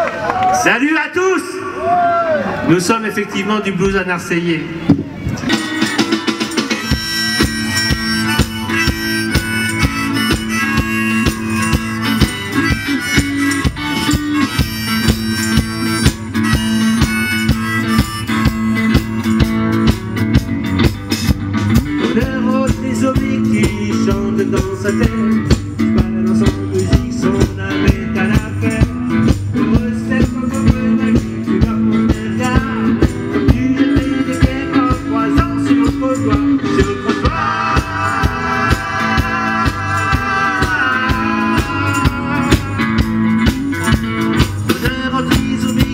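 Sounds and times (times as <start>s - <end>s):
electric guitars: 4.8s - 45.9s
drum kit beat: 5.4s - 45.9s.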